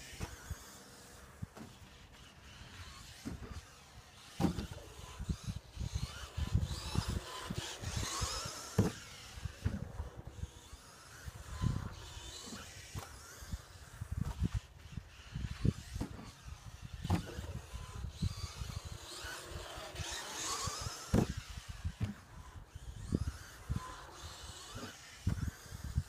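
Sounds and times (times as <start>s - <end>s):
rc car electric motor whine: 0.0s - 26.0s
rc car thumps on track: 0.0s - 26.0s.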